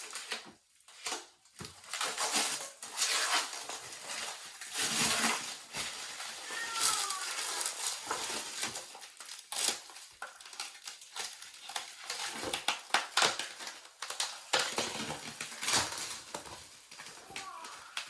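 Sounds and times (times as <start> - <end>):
packaging crinkling: 1.8 - 18.0.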